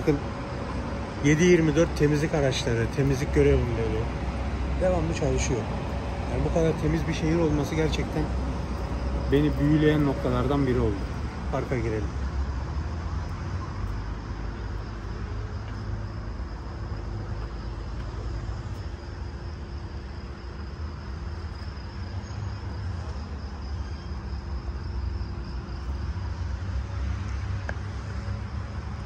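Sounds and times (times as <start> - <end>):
crickets chirring: 0.0 - 29.0
low rumble of city traffic: 0.0 - 29.0.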